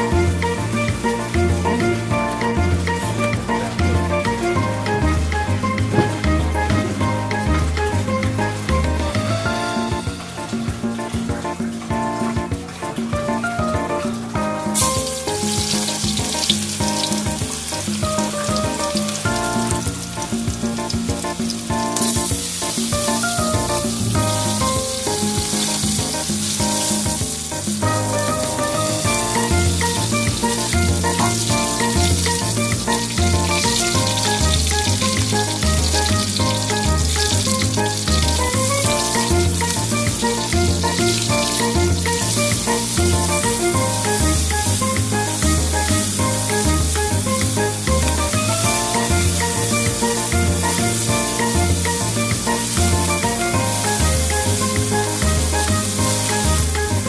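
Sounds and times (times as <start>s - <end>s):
garlic and onions sizzling in oil: 0.0s - 11.8s, 13.6s - 57.0s
background music with bass beat: 0.0s - 57.0s.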